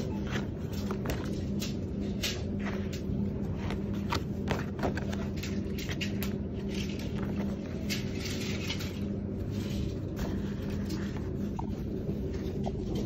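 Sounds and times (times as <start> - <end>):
paper rustling: 0.0 - 13.0
steady low hum: 0.0 - 13.0.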